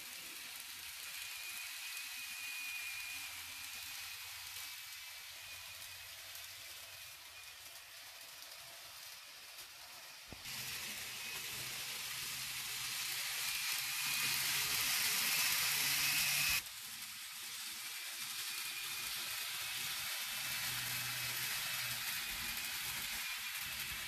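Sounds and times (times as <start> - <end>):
model train wheels hissing on rail: 0.0 - 24.0.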